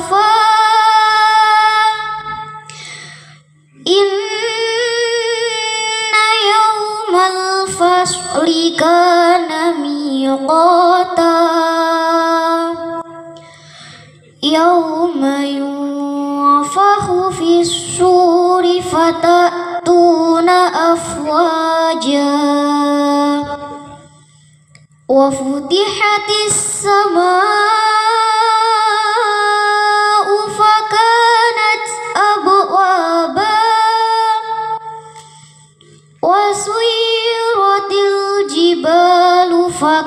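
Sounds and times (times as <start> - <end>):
girl chanting melodically: 0.0 - 2.8, 3.8 - 13.6, 14.4 - 24.1, 25.1 - 35.3, 36.2 - 40.0.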